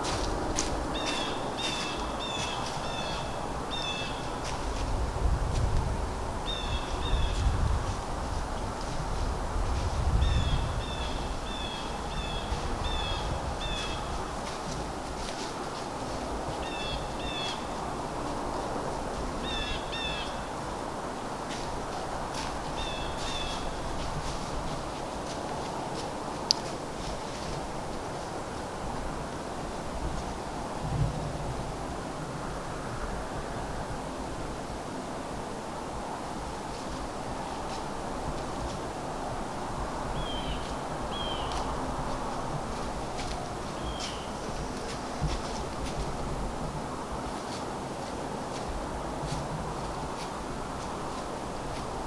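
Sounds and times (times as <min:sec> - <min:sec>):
woodland background noise: 0:00.0 - 0:52.0.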